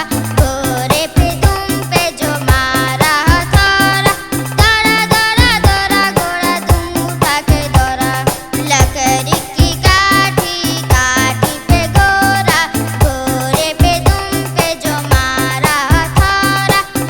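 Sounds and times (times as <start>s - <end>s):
nursery rhyme song with beat: 0.0s - 17.0s.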